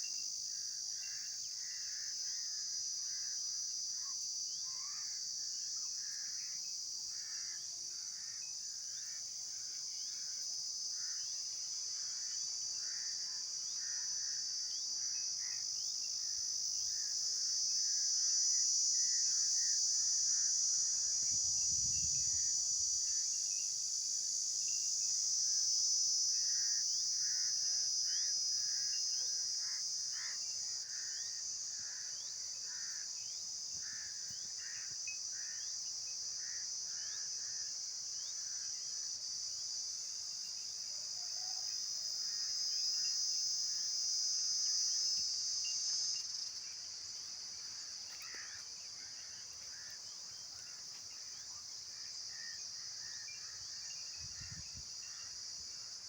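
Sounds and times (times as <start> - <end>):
insect chirps: 0.0 - 56.0
insect buzzing trill: 5.8 - 56.0.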